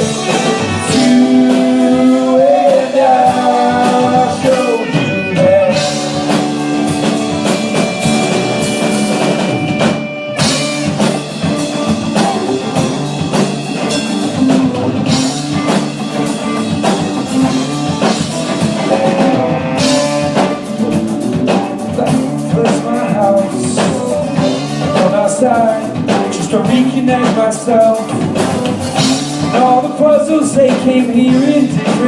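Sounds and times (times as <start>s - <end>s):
drum kit: 0.0s - 32.0s
electric guitar: 0.0s - 32.0s
rock band playing live: 0.0s - 32.0s.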